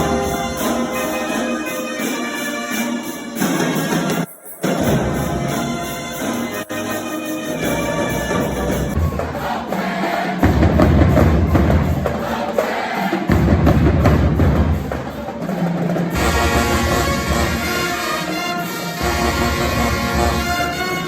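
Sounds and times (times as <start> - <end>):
music with loud drumming: 0.0 - 21.0.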